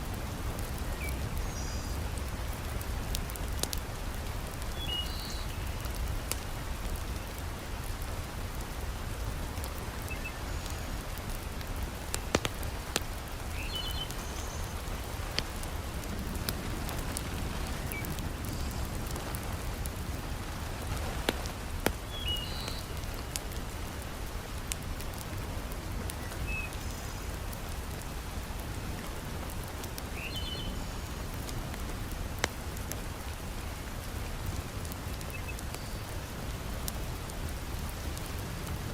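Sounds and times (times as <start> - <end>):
heavy rain falling: 0.0 - 38.9
wood fire crackling: 0.0 - 38.9.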